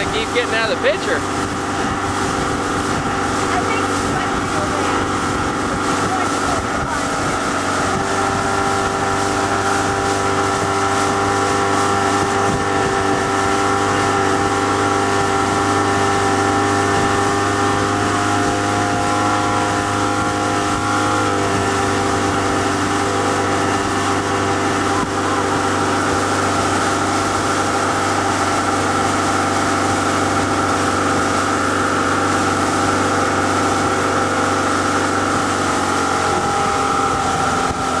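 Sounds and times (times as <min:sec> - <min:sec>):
motorboat engine running: 0:00.0 - 0:38.0
rushing water: 0:00.0 - 0:38.0
wind noise: 0:00.0 - 0:38.0.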